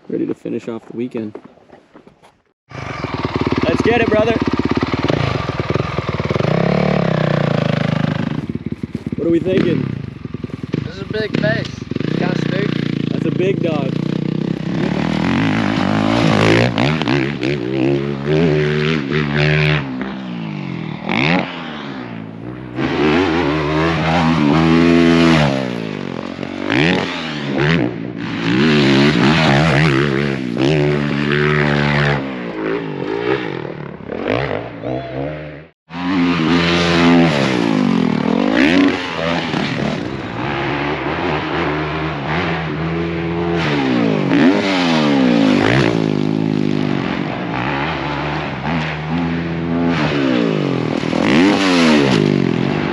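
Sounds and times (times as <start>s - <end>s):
motocross bike engines revving: 2.7s - 52.9s.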